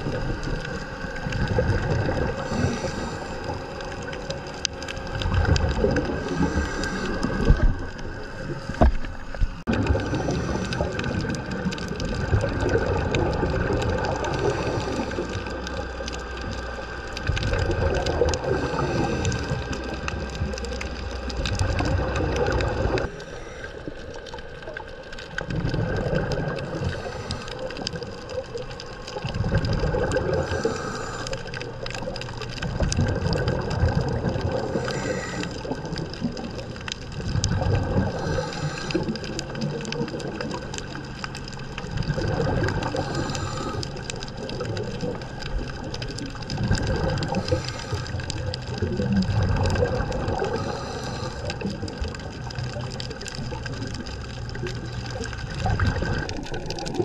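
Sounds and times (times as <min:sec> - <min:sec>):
exhaled bubbles underwater: 0:00.0 - 0:57.0.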